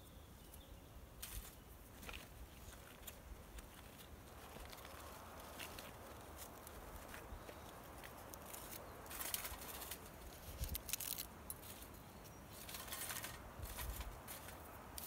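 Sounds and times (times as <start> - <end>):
crackling and rustling: 1.2 - 15.0.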